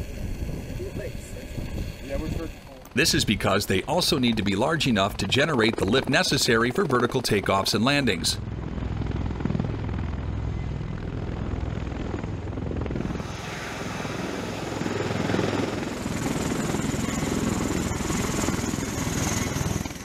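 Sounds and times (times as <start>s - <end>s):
aircraft rotor drone: 0.0s - 20.0s
faint high engine whine: 0.0s - 20.0s.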